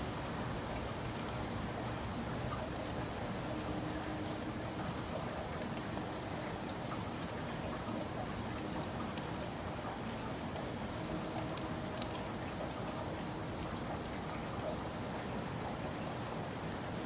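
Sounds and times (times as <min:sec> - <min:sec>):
rain drops ticking on surface: 0:00.0 - 0:17.0.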